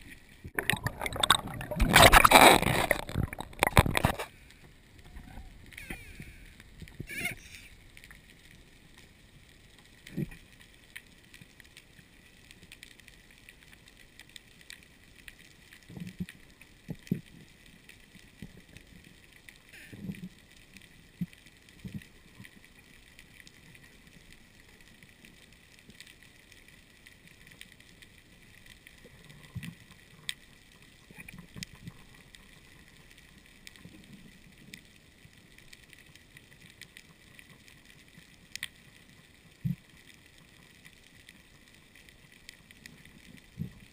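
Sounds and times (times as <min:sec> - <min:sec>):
faint underwater hiss with crackle: 0:00.0 - 0:43.9.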